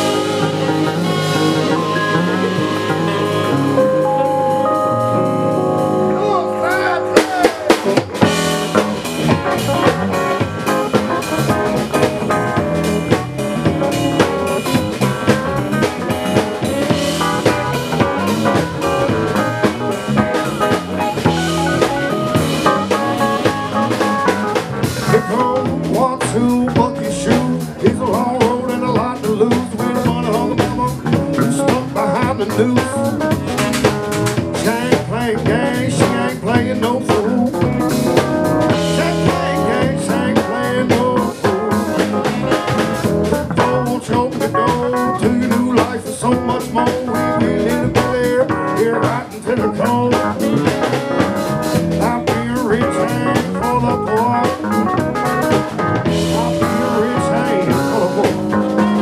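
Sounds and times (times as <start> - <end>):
drum kit beat: 0.0 - 59.0
live band playing: 0.0 - 59.0.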